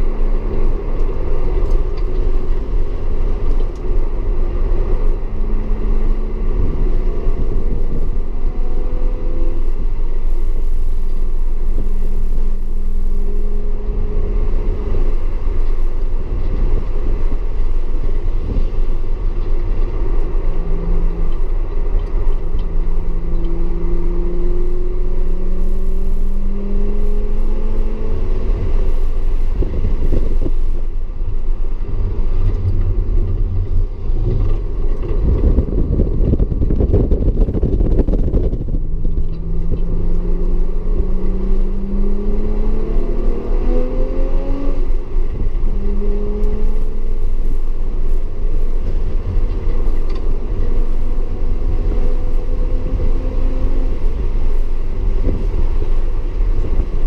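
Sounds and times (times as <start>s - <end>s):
car engine accelerating: 0.0s - 57.0s
tyre and road noise: 0.0s - 57.0s.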